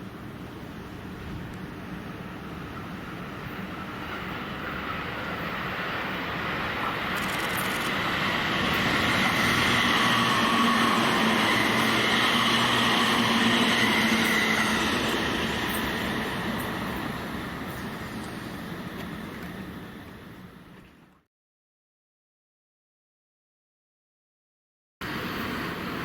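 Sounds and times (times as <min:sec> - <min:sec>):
electric train passing: 0:00.0 - 0:20.8, 0:25.0 - 0:26.0.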